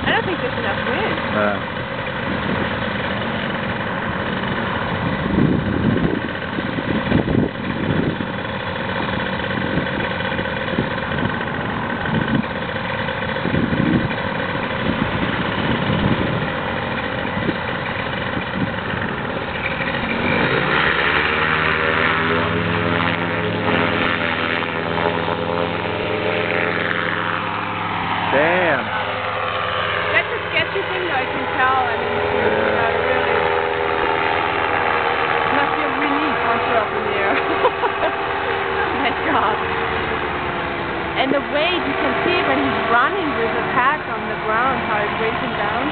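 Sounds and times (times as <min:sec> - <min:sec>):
paramotor engine and propeller: 0:00.0 - 0:45.9.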